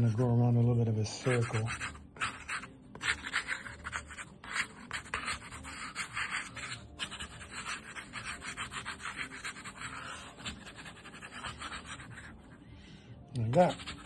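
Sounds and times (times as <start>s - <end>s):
dough rubbing and scraping on counter: 1.1s - 12.6s, 13.4s - 14.0s.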